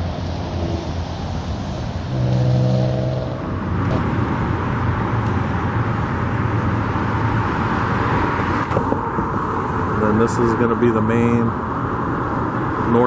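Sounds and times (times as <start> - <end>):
tyre and traffic noise: 0.0 - 13.0
vehicle engine drone: 0.0 - 13.0.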